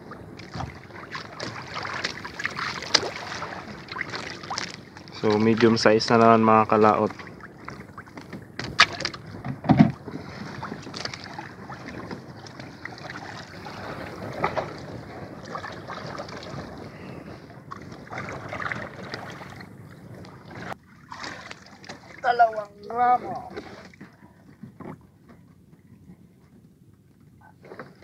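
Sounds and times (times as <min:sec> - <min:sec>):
water lapping around a boat: 0:00.0 - 0:28.0
wind: 0:00.0 - 0:28.0.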